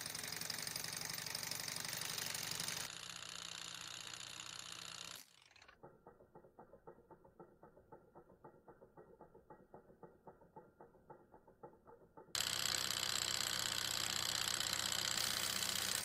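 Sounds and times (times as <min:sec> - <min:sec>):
small engine ticking softly: 0:00.0 - 0:16.0.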